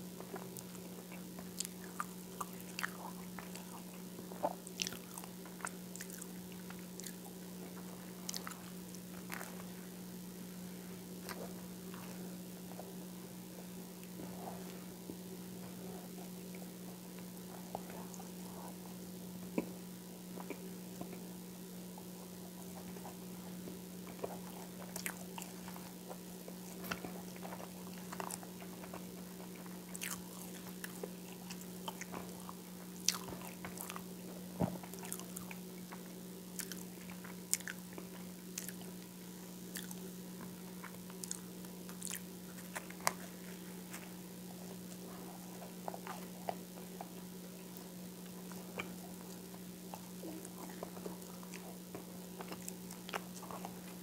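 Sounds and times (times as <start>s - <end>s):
chewing crunchy toast: 0.0s - 54.0s
steady low hum: 0.0s - 54.0s.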